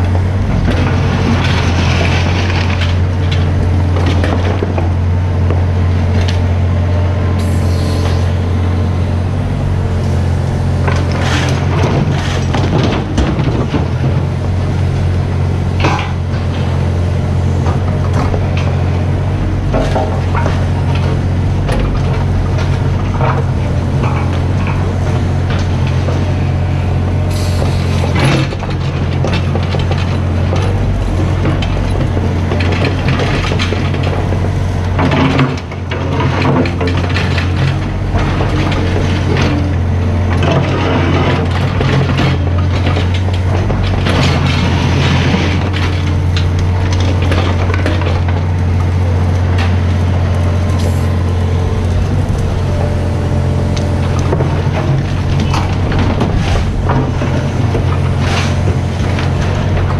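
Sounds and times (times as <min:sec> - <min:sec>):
diesel engine running under load: 0:00.0 - 0:59.9
metal clanking and scraping: 0:07.3 - 0:14.6, 0:15.7 - 0:17.0, 0:17.6 - 0:59.9.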